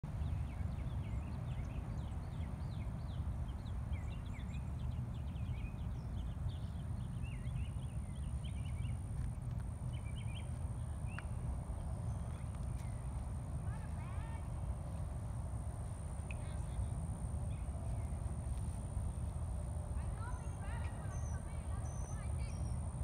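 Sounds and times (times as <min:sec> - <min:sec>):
steady low rumble: 0:00.1 - 0:23.0
small birds chirping: 0:00.2 - 0:14.6, 0:15.8 - 0:23.0.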